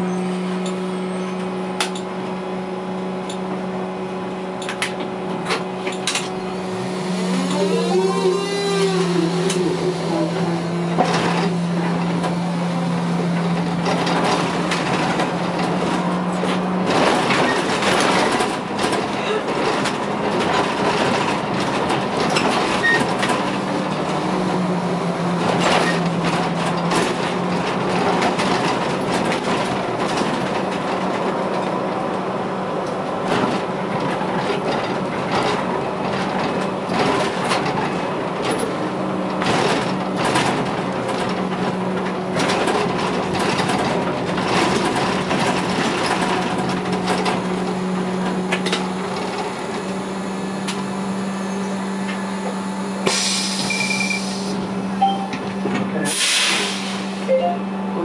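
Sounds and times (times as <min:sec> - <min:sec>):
trolleybus electric hum: 0:00.0 - 0:58.0.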